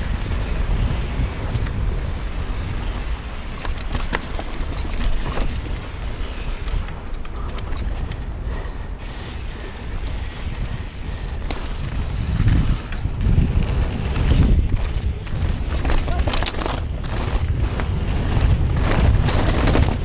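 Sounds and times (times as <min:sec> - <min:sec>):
bike rattles and clicks: 0:00.0 - 0:20.0
wind buffeting microphone: 0:00.0 - 0:20.0.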